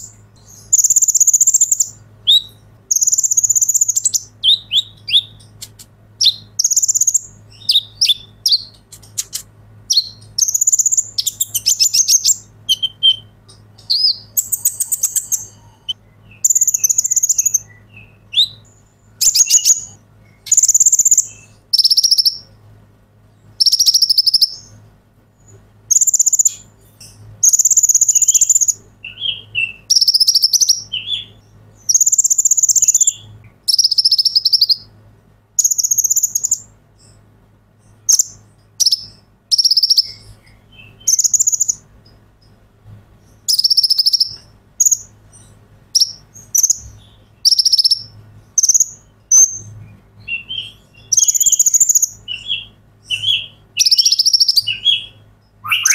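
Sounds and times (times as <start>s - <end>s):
sunbird singing buzzy trills: 0.0s - 55.9s.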